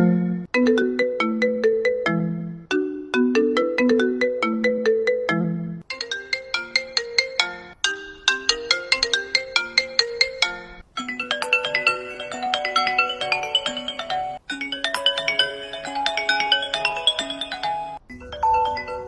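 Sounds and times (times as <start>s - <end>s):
phone ringtone chiming melody: 0.0s - 19.0s.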